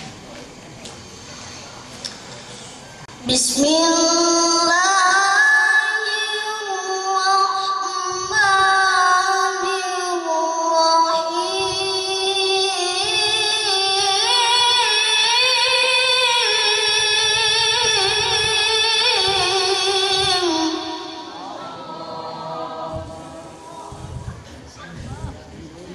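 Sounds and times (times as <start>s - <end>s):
boy chanting over loudspeakers: 3.1s - 25.9s.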